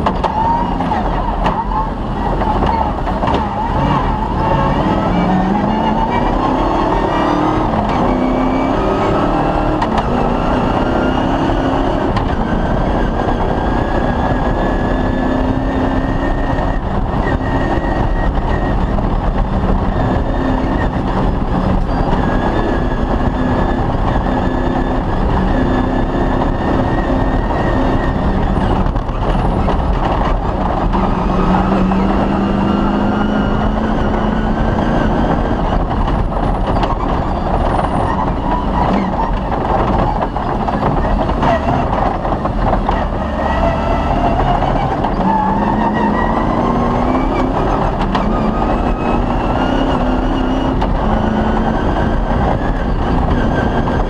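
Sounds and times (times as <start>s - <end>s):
loud rumble and noise: 0.0s - 54.0s
rally car engine at speed: 0.0s - 54.0s.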